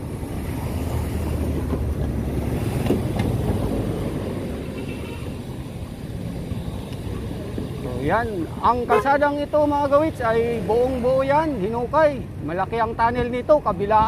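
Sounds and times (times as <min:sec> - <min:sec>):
car passing: 0:00.0 - 0:12.4.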